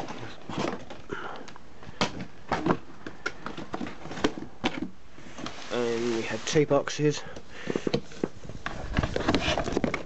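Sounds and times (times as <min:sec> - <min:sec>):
boxes and plastic parts handled: 0:00.0 - 0:10.0.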